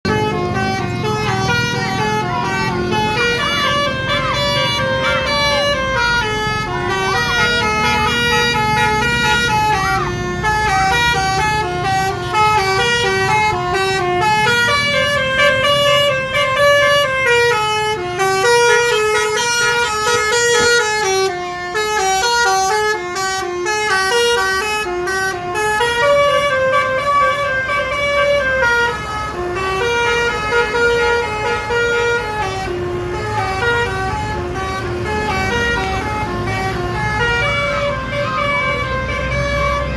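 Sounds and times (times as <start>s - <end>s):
air horns playing a tune: 0.0s - 39.9s
road and engine rumble: 0.0s - 39.9s.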